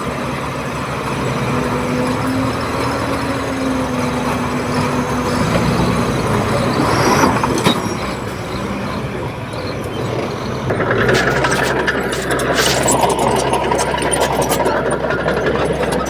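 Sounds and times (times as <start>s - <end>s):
bulldozer diesel engine: 0.0s - 16.0s.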